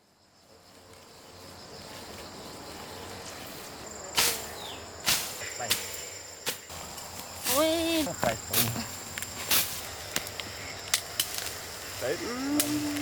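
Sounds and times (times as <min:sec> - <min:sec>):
insects buzzing: 0:00.0 - 0:13.0
outdoor background noise: 0:00.0 - 0:13.0.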